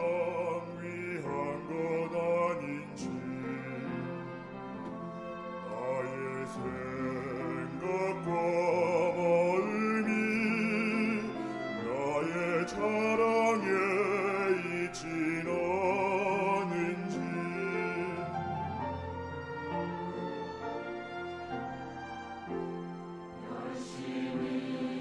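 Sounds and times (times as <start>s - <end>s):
choir singing a hymn: 0.0s - 20.7s, 23.2s - 25.0s
instrumental accompaniment: 0.0s - 25.0s.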